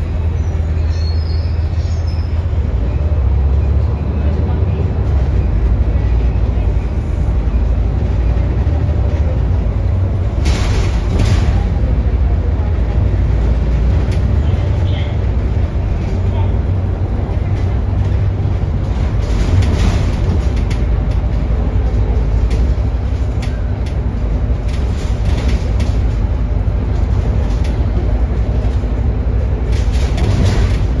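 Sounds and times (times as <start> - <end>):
moving vehicle rumble: 0.0 - 31.0.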